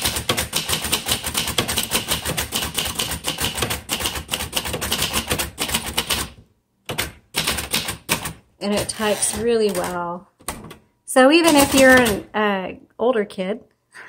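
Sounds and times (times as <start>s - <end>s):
typewriter keystrokes: 0.0s - 10.8s, 11.4s - 12.3s.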